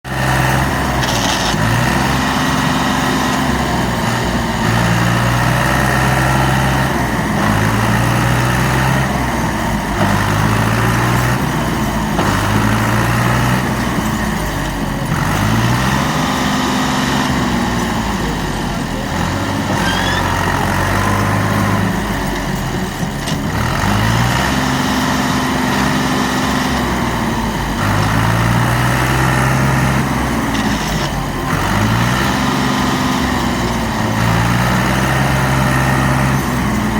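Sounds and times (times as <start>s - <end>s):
diesel tractor engine revving: 0.0s - 36.9s.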